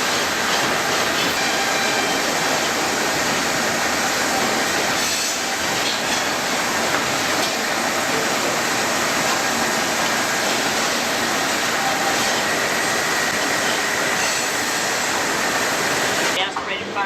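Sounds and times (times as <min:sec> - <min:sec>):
industrial machinery noise: 0:00.0 - 0:17.0.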